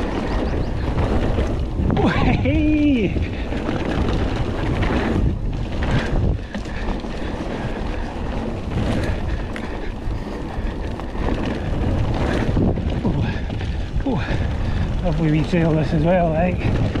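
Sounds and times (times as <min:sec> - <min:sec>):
bike knocks and rattles: 0:00.0 - 0:17.0
bike tyres rolling on trail: 0:00.0 - 0:17.0
low rumble: 0:00.0 - 0:17.0
wind on microphone: 0:00.0 - 0:17.0.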